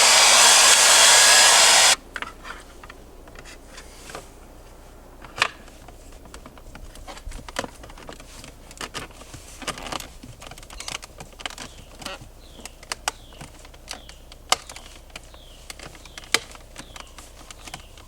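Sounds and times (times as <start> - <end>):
crinkling rustles: 2.2 - 18.0.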